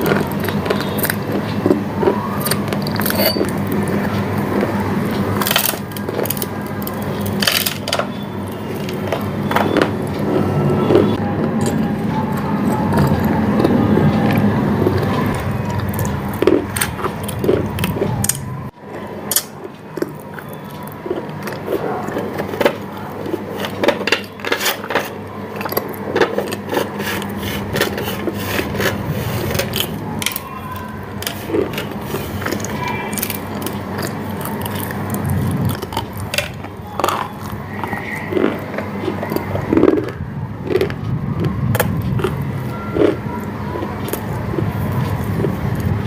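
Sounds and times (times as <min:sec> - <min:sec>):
person chewing crunchy food: 0:00.0 - 0:18.6, 0:19.3 - 0:46.0.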